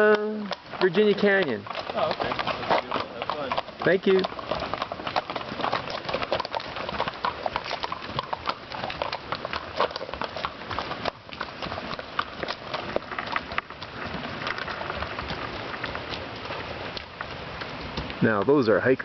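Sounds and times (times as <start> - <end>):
hooves clopping on trail: 0.0 - 19.0.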